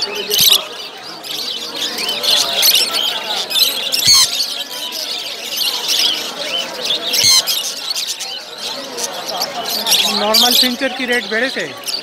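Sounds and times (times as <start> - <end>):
small birds chirping and squawking: 0.0 - 12.0.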